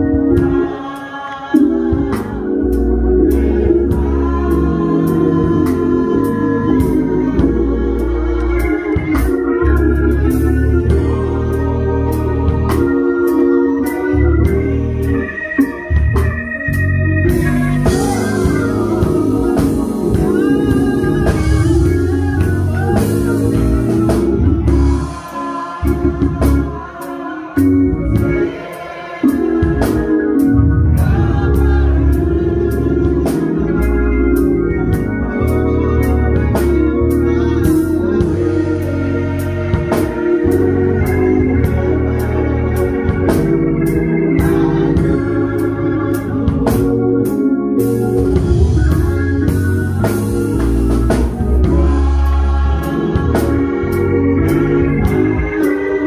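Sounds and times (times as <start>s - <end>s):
gospel organ playing chords: 0.0s - 56.0s.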